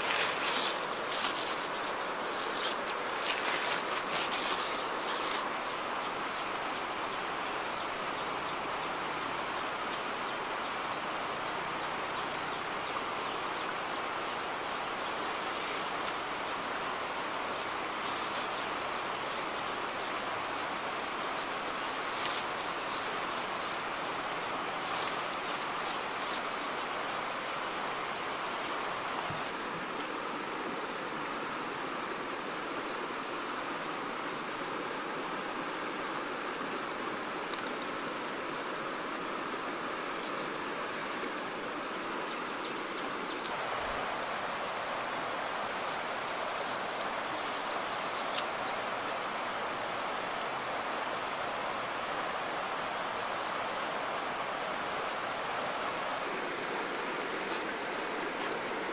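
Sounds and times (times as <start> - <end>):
background hiss: 0.0 - 58.9
insects droning: 0.0 - 58.9.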